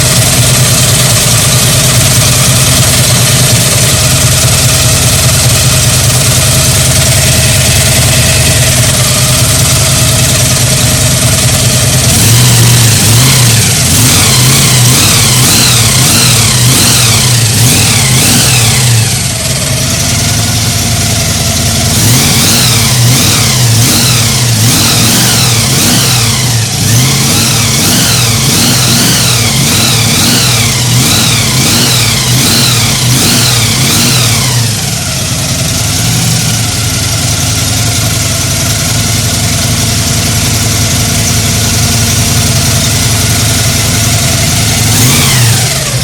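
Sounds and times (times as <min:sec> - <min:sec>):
supercharged engine idling and revving: 0:00.0 - 0:46.0.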